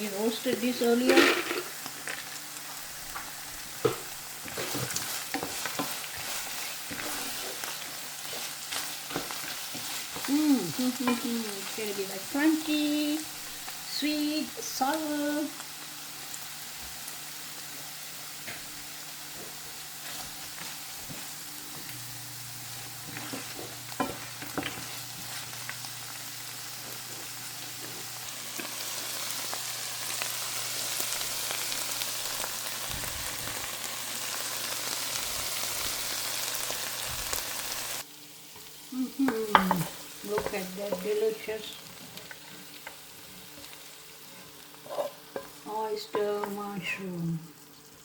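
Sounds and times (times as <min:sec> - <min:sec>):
food sizzling in a frying pan: 0:00.0 - 0:48.0.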